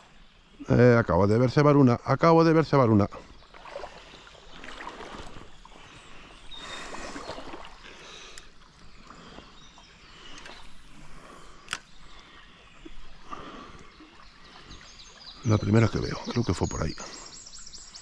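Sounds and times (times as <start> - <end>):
river water splashing: 2.8 - 17.4.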